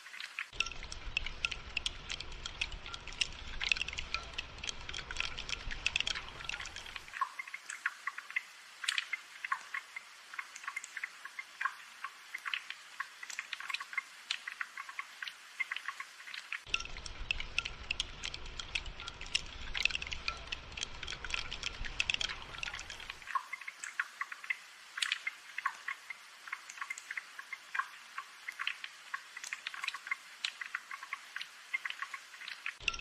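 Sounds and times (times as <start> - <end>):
rain dripping and pattering: 0.0 - 33.0.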